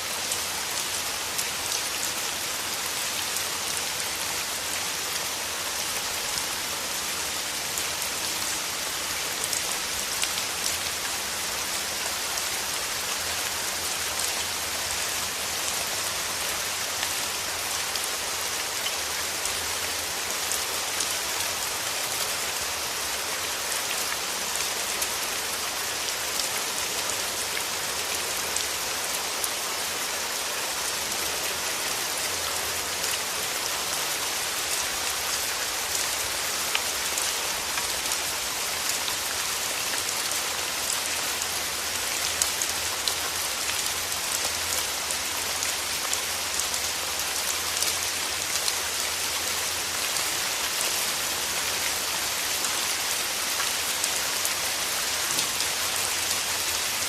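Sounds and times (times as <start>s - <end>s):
rain falling through trees: 0.0s - 57.0s.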